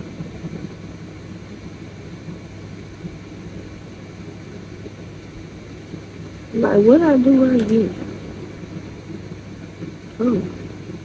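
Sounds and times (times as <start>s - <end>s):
low room hum with hiss: 0.0s - 11.0s.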